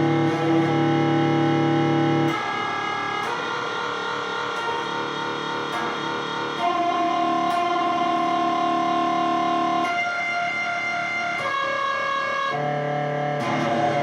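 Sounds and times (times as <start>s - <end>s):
electric guitar with purring delay: 0.0s - 3.4s, 4.0s - 14.0s.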